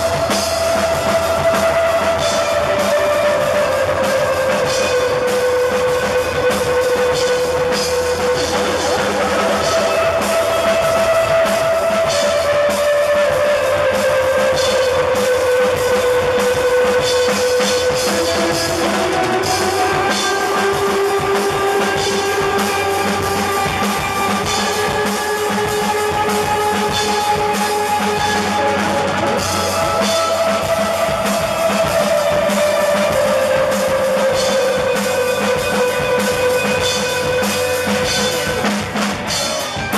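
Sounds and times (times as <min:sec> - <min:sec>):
drum kit beat: 0:00.0 - 0:39.9
guitar long notes: 0:00.0 - 0:39.9.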